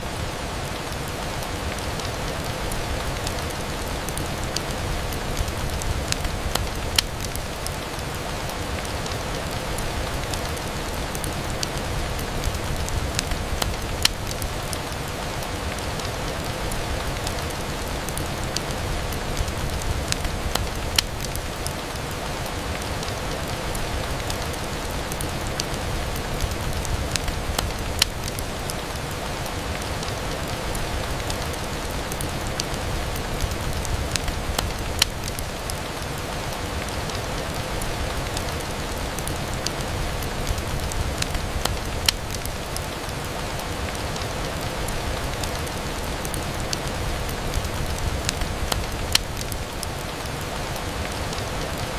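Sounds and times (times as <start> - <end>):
fireplace crackling: 0.0 - 51.9
rain falling against a window: 0.0 - 51.9.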